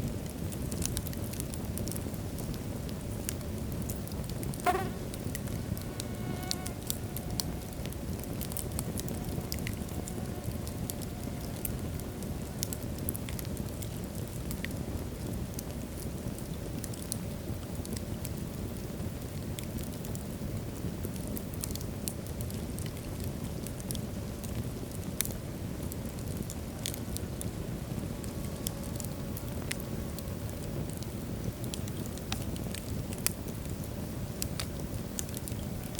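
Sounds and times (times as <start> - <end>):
logs crackling and popping: 0.0 - 35.9
rumble of fire flames: 0.0 - 35.9.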